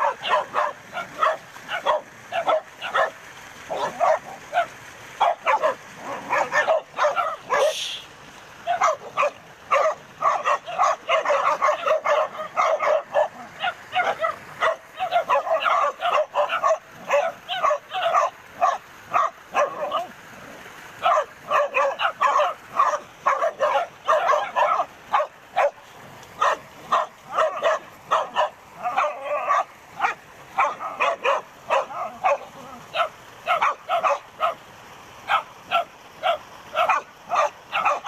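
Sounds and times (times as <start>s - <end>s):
dog barking and yelping: 0.0s - 7.9s, 8.6s - 20.2s, 20.9s - 34.6s, 35.2s - 38.0s.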